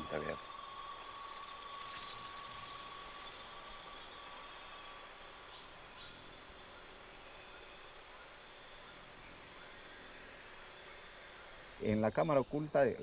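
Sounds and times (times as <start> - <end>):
faint chirps: 0.0 - 13.0
insects hissing: 0.0 - 13.0
thin steady tone: 0.0 - 13.0.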